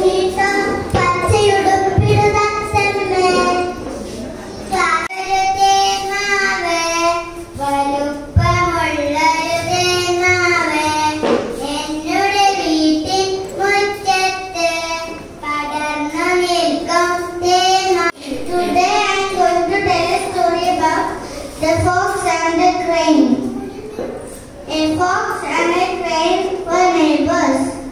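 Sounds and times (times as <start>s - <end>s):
child singing: 0.0s - 3.9s, 4.7s - 23.9s.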